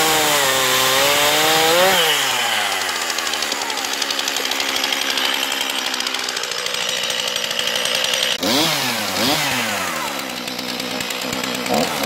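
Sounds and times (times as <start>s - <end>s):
chainsaw idling and revving: 0.0s - 12.0s.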